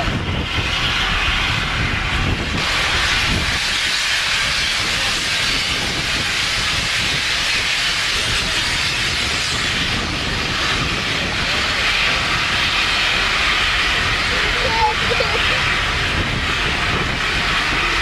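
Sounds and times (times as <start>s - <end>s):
steam locomotive venting steam: 0.0s - 18.0s.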